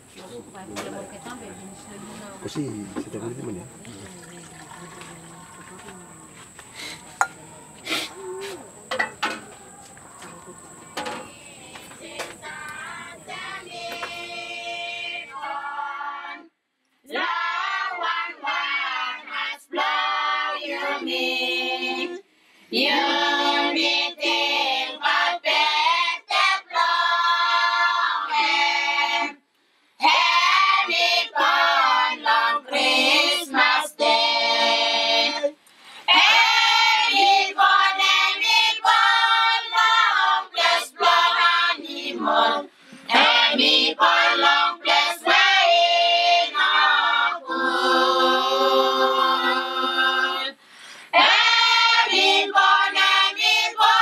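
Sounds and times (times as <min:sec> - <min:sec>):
children singing a carol: 0:00.8 - 0:29.4, 0:30.0 - 0:54.0.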